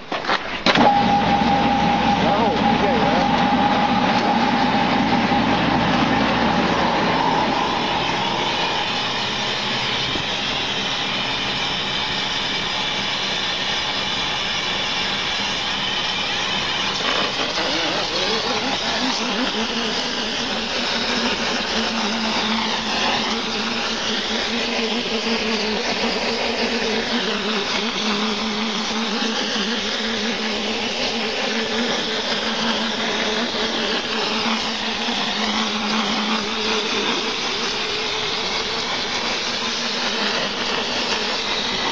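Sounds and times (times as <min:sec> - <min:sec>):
air compressor running: 0:00.0 - 0:41.9
compressed air hissing: 0:00.8 - 0:41.9.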